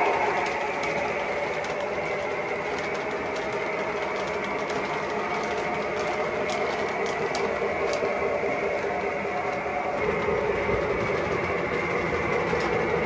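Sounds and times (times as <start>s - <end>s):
locomotive motor whirring: 0.0s - 13.0s
toy train wheels rumbling on rails: 0.0s - 13.0s.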